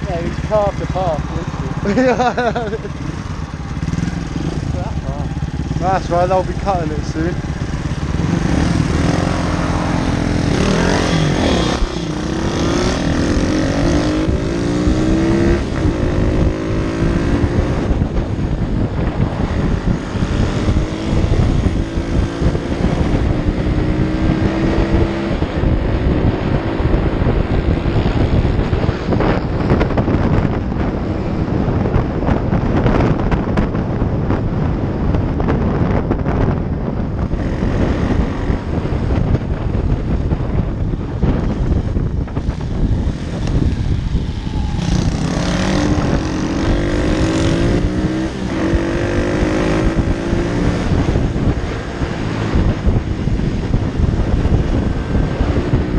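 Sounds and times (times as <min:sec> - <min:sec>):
motorbike engine accelerating: 0:00.0 - 0:55.9
wind on microphone: 0:00.0 - 0:55.9.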